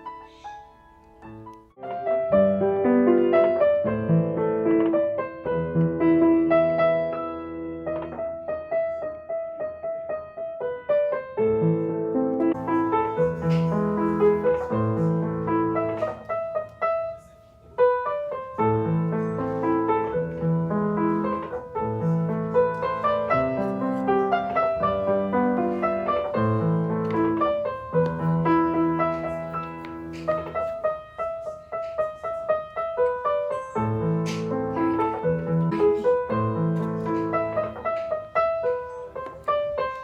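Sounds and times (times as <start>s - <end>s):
gentle piano piece: 0.0s - 40.0s.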